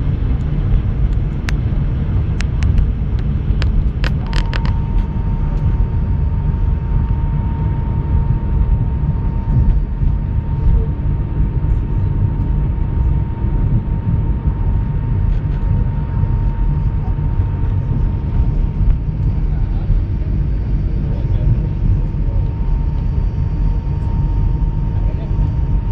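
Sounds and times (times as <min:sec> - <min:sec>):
airliner cabin rumble: 0:00.0 - 0:25.9
faint steady whine: 0:00.0 - 0:25.9.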